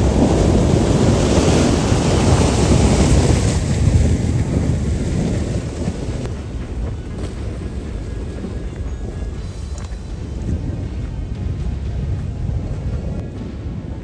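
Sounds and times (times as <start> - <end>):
rushing floodwater: 0.0 - 14.0
wind buffeting microphone: 0.0 - 14.0.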